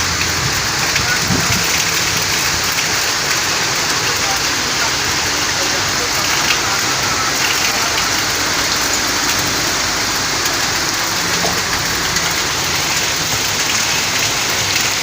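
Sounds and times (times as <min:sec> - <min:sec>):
heavy rain on a car: 0:00.0 - 0:15.0.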